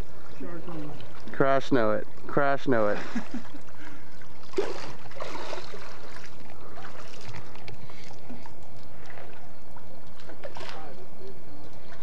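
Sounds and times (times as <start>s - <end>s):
pool water sloshing and splashing: 0.0s - 12.0s.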